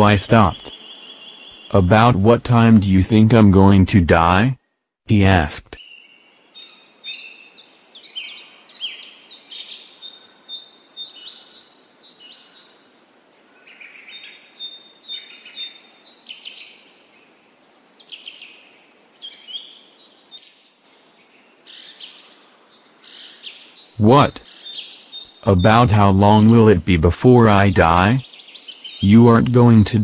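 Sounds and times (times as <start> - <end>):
birds chirping and singing: 0.0 - 3.4, 5.8 - 18.6, 19.2 - 30.0.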